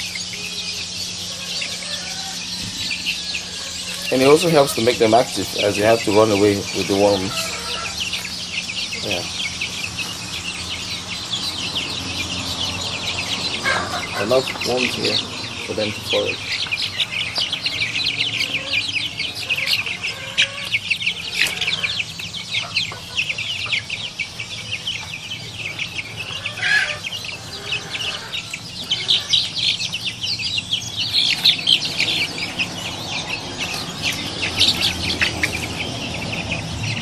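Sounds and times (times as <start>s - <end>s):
chickens clucking: 0.0s - 37.0s
high chirps chatter: 0.0s - 37.0s.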